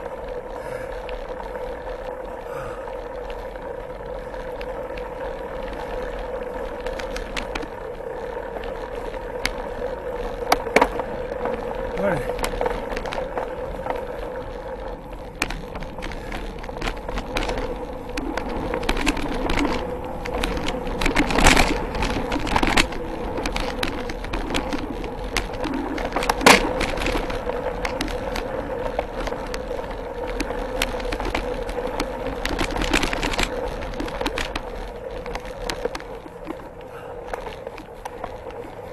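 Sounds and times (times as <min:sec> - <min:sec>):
bike chain and parts rattling: 0:00.0 - 0:38.9
bike jolting over bumps: 0:00.0 - 0:38.9
bike tyres on dirt: 0:00.0 - 0:38.9.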